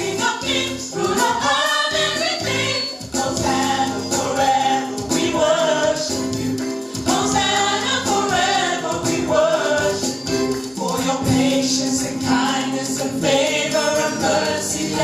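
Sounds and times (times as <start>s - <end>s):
gospel choir singing: 0.0s - 15.0s
instrumental backing music: 0.0s - 15.0s.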